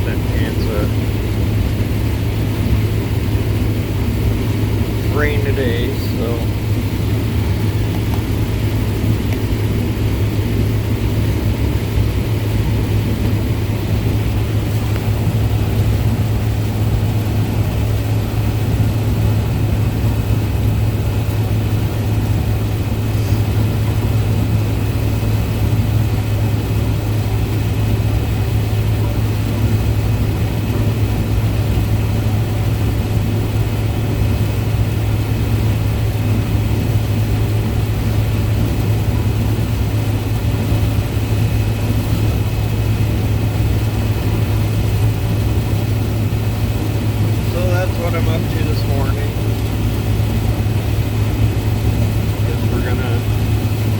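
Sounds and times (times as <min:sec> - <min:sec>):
tractor diesel engine humming: 0:00.0 - 0:53.9.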